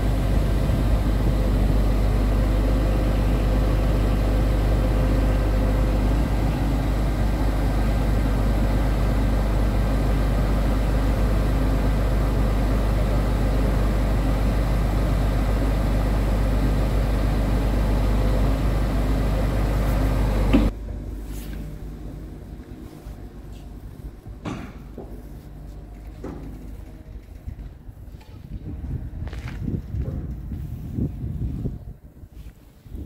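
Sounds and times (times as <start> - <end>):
diesel truck engine running: 0.0 - 32.4.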